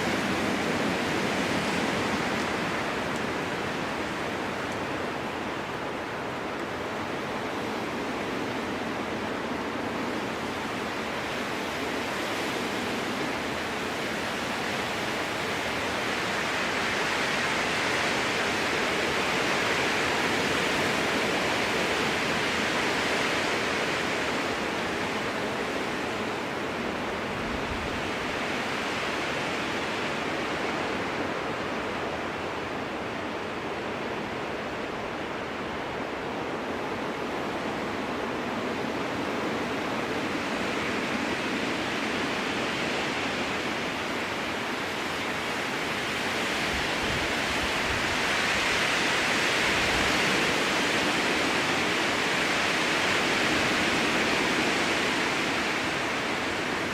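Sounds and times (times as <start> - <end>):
strong wind through trees: 0.0 - 56.9.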